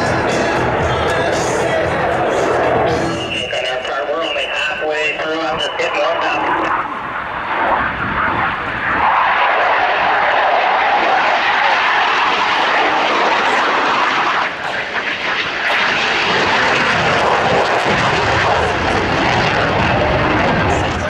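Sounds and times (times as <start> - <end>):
aircraft engine rushing: 0.0 - 21.0.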